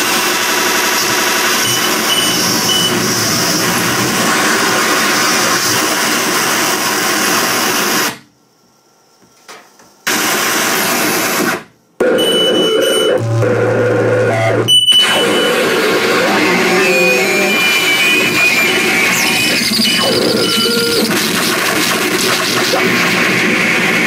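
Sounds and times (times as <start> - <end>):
harsh distorted noise music: 0.0 - 8.2, 10.1 - 24.0.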